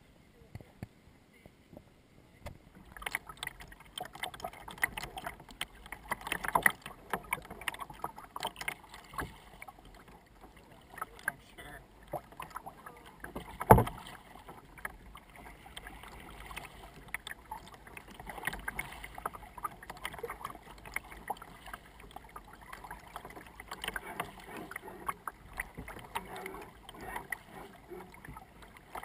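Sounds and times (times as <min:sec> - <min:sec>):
water lapping against hull: 0:02.5 - 0:29.0
paddle splashes: 0:02.6 - 0:29.0.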